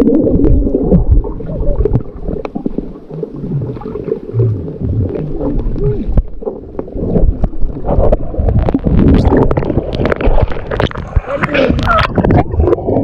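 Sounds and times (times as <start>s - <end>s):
muffled water sloshing: 0.0s - 13.0s.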